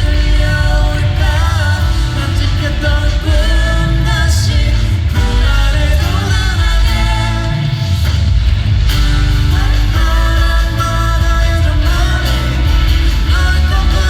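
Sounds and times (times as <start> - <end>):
person singing: 0.0 - 8.3, 9.0 - 14.0
live rock band with heavy bass: 0.0 - 14.0.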